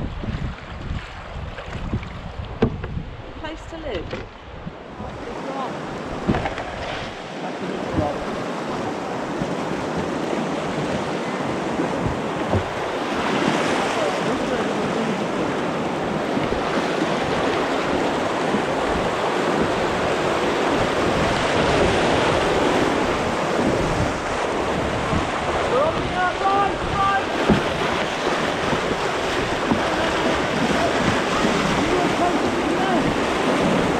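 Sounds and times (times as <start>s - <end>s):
wind buffeting microphone: 0.0s - 33.9s
rushing river rapids: 4.8s - 33.9s.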